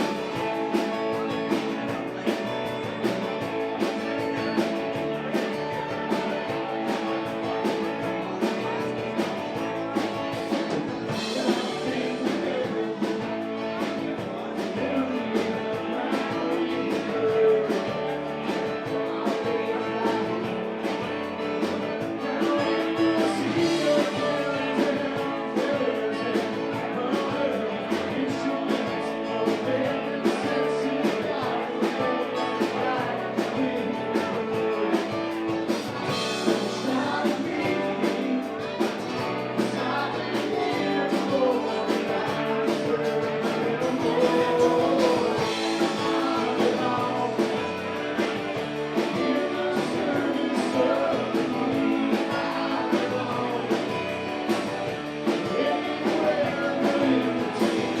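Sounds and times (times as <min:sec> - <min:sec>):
person singing: 0:00.0 - 0:58.0
rock band playing: 0:00.0 - 0:58.0.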